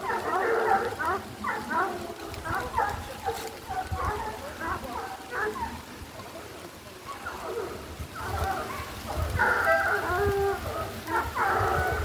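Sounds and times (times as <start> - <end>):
hunting dogs baying: 0.0 - 6.4, 7.0 - 12.0
footfalls through undergrowth: 0.0 - 12.0.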